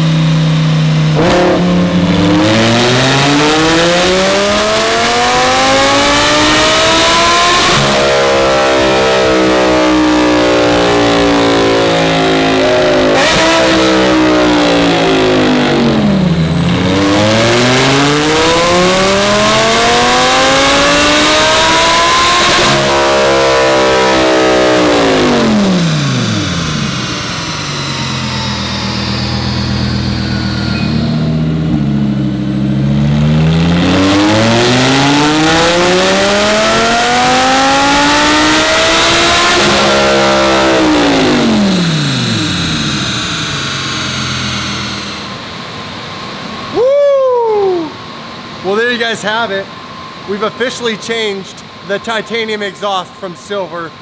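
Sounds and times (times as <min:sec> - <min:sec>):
sports car engine revving: 0:00.0 - 0:46.7.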